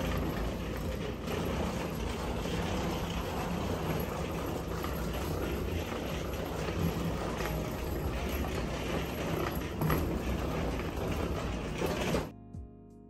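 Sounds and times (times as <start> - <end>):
wheeled suitcases rolling: 0.0 - 12.3.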